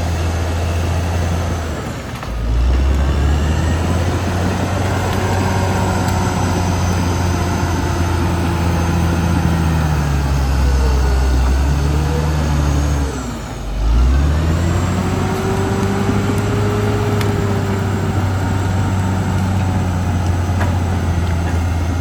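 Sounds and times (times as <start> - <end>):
bulldozer diesel engine: 0.0 - 22.0.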